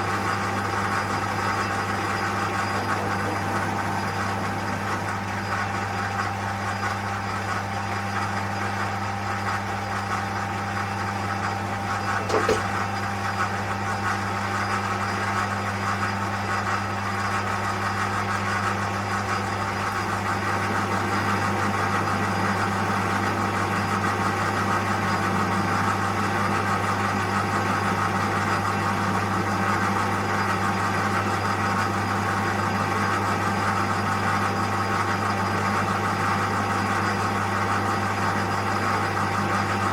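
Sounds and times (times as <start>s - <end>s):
lathe motor hum with gear whine: 0.0s - 39.9s.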